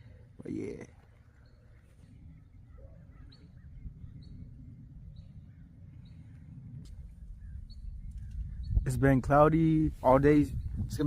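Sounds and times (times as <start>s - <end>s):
bird chirping: 0.0s - 9.1s.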